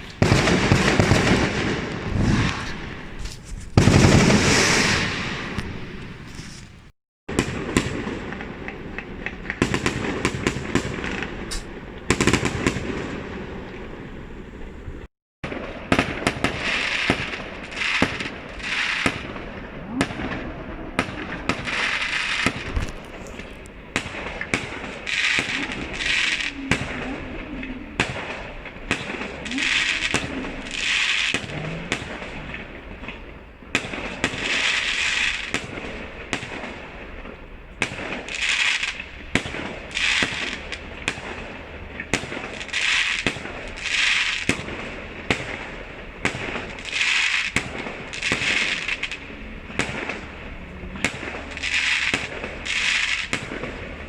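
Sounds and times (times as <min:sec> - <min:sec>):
fireworks banging: 0:00.0 - 0:54.0
fireworks crackling: 0:00.0 - 0:54.0.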